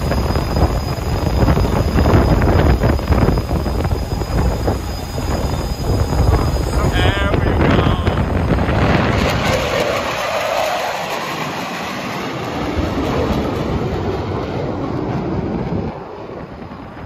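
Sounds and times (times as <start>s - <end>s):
fighter jet engine roar: 0.0s - 17.0s.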